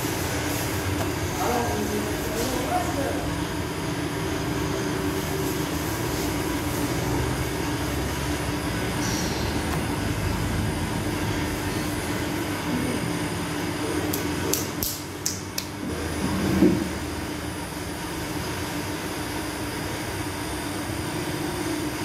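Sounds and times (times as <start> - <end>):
oven burner rushing with hum: 0.0 - 22.0.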